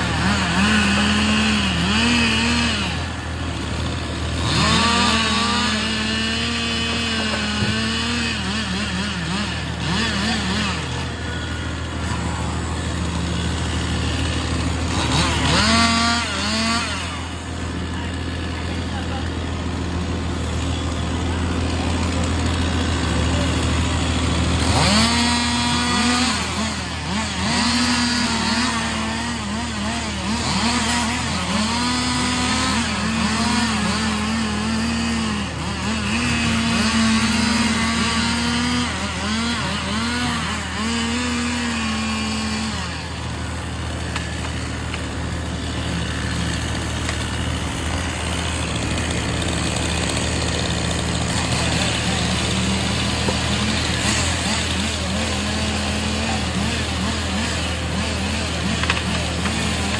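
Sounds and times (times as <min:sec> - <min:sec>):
chainsaw cutting log: 0:00.0 - 0:59.9
truck engine running: 0:00.0 - 0:59.9.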